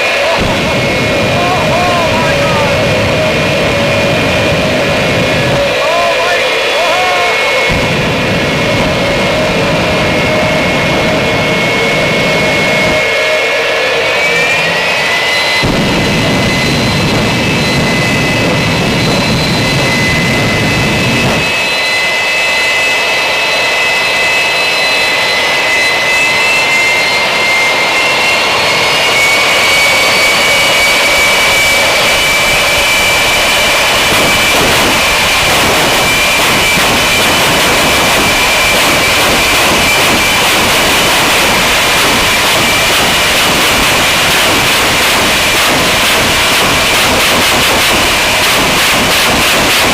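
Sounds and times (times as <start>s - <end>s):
jet engine whine: 0.0s - 49.9s.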